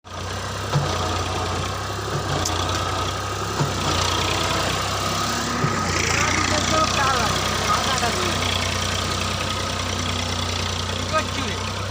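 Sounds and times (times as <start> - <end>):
diesel tractor engine drone: 0.0 - 11.9.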